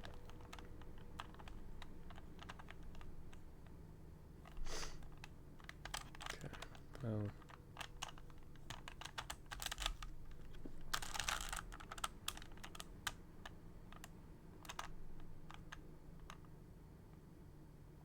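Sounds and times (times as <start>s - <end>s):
puzzle cube plastic clicks: 0.0s - 3.8s, 4.4s - 16.5s.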